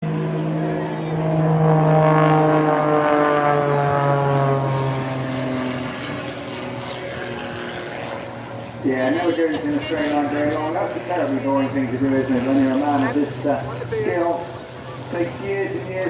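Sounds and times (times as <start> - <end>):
propeller plane engine passing by: 0.0 - 16.0.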